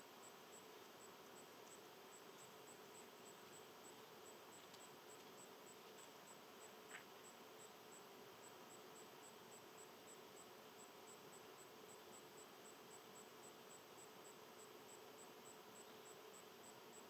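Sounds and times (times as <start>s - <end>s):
low hiss: 0.0s - 17.0s
insect chirping: 0.2s - 17.0s.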